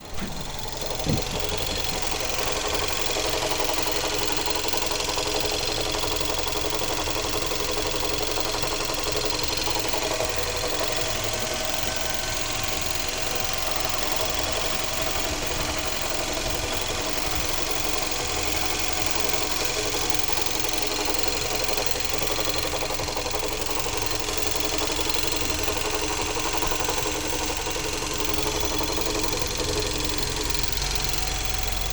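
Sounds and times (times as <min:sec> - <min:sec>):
engine idling with knock: 0:00.0 - 0:31.9.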